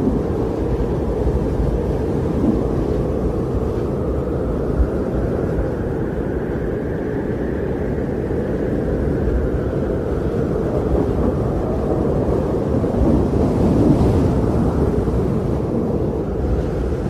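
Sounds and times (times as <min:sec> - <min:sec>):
wind blowing in snowstorm: 0:00.0 - 0:17.0.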